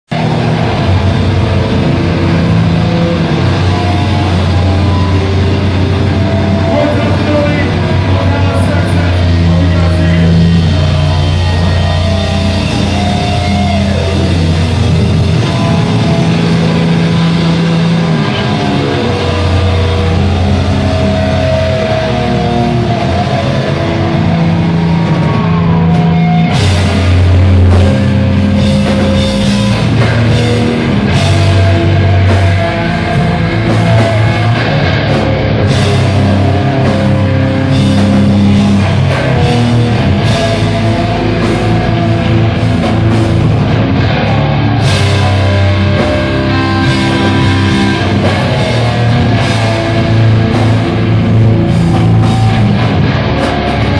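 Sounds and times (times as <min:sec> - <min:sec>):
bass guitar riffs: 0:00.0 - 0:53.9
distorted electric guitars: 0:00.0 - 0:53.9
drum kit: 0:00.1 - 0:53.9.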